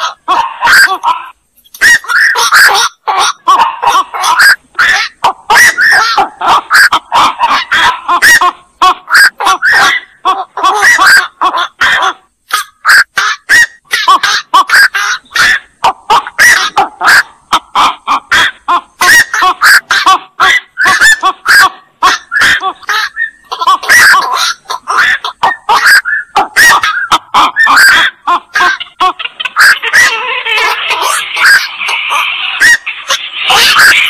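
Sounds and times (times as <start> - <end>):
herons squawking: 0.0 - 34.0.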